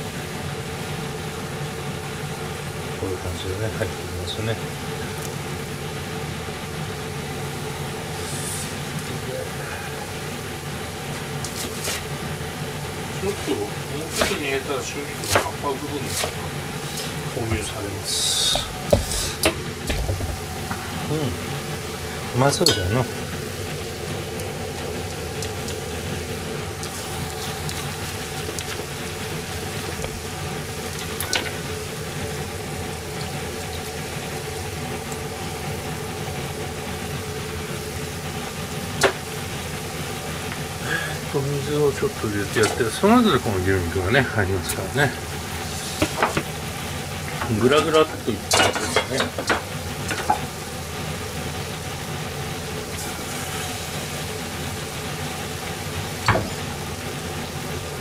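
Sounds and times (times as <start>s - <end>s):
gas stove humming: 0.0s - 58.0s
pot bubbling at a boil: 0.0s - 58.0s.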